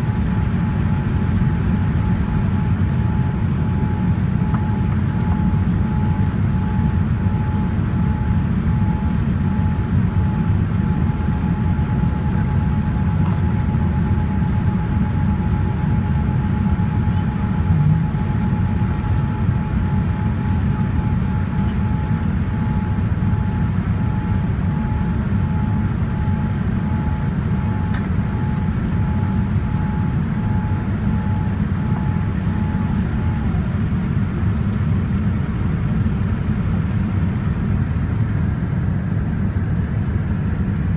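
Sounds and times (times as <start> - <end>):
airplane engine rumble: 0.0 - 40.9
thin pulsing whine: 0.0 - 40.9.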